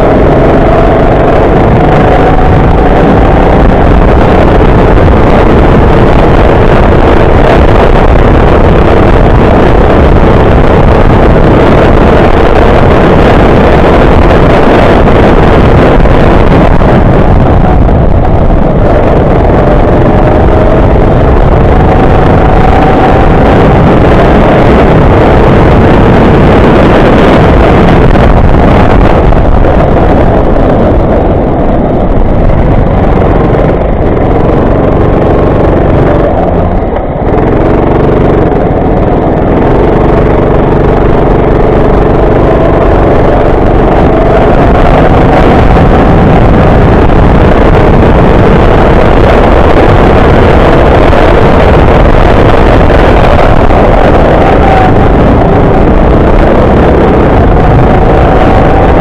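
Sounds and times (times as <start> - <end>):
go-kart engine running hard: 0.0 - 59.0
wind noise on microphone: 0.0 - 59.0.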